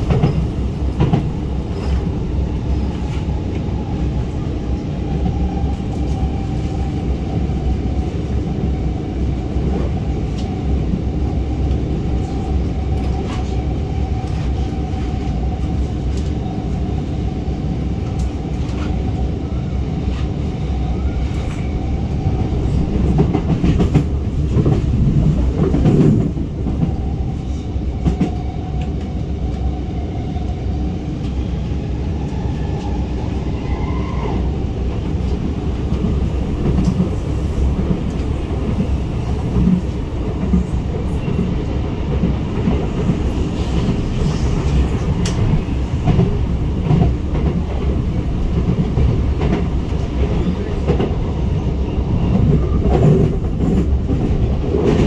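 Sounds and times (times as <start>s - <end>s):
metro train wheels rumbling: 0.0s - 55.0s
train whine: 0.0s - 55.0s.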